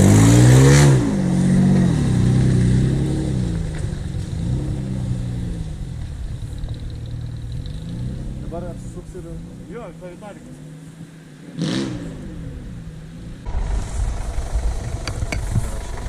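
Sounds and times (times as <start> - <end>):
suv engine revving: 0.0 - 16.0.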